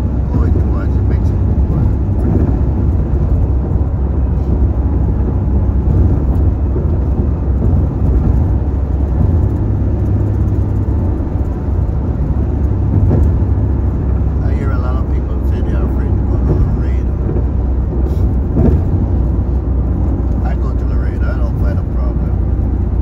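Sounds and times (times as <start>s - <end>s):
car driving on highway: 0.0s - 23.0s.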